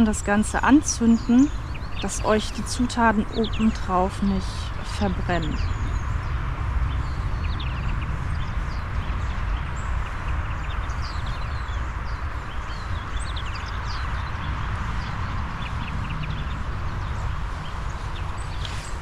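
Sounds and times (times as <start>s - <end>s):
small birds chirping: 0.0s - 19.0s
steady rushing noise: 0.0s - 19.0s.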